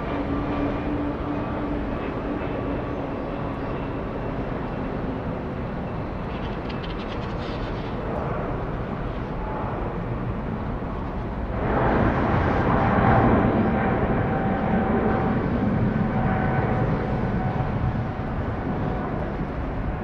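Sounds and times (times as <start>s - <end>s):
jet engine rush: 0.0s - 20.0s.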